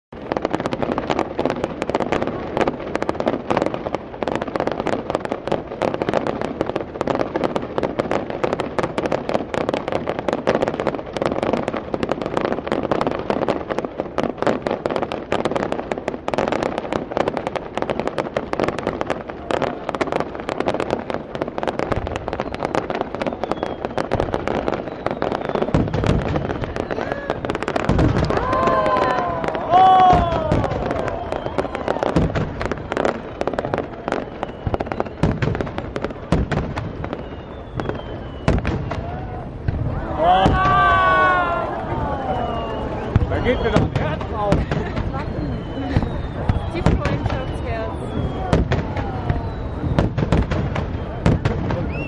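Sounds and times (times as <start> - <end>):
fireworks crackling: 0.1 - 52.0
deep firework booms: 0.2 - 52.0.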